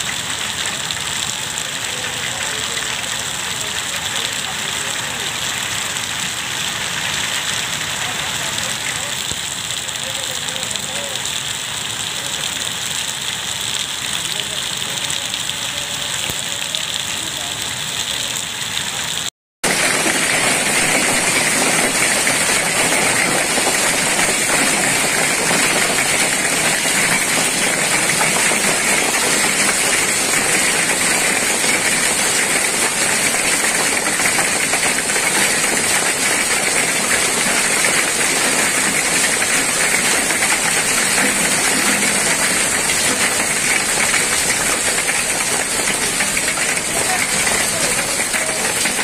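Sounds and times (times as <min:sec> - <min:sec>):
hail and rain on pavement: 0:00.0 - 0:49.0.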